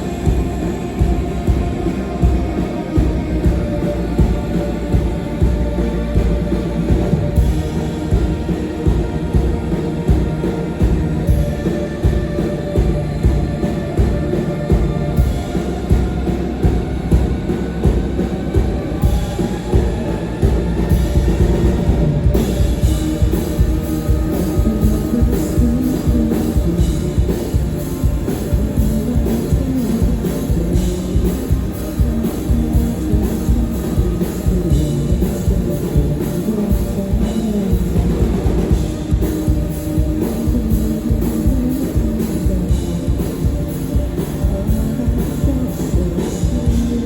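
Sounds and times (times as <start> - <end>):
drum kit: 0.0 - 47.0
guitar: 0.0 - 47.0
rock band playing loud: 0.0 - 47.0.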